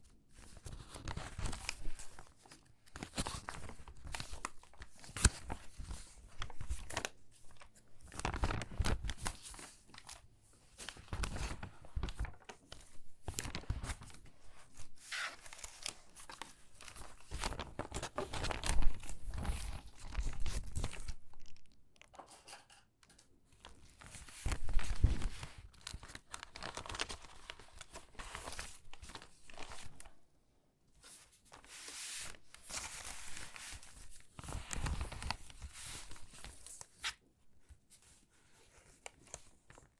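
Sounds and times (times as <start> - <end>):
stiff magazine pages crinkling: 0.4 - 10.2, 10.8 - 21.6, 23.6 - 30.2, 31.0 - 37.2.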